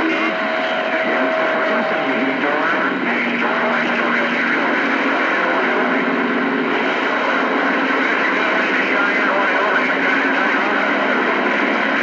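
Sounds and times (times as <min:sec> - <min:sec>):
faint garbled radio voices: 0:00.0 - 0:12.0
radio static hiss: 0:00.0 - 0:12.0.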